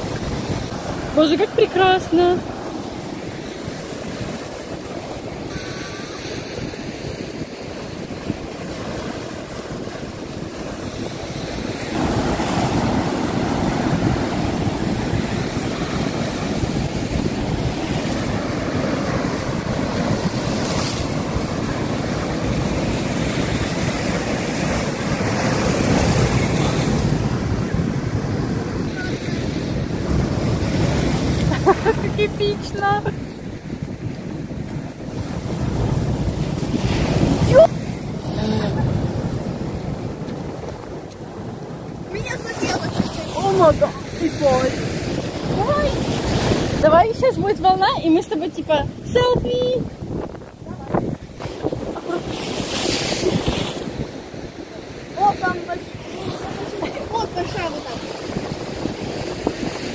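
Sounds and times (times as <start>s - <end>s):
surf breaking on rocks: 0.0s - 33.3s, 41.8s - 59.9s
wind buffeting microphone: 0.0s - 59.9s.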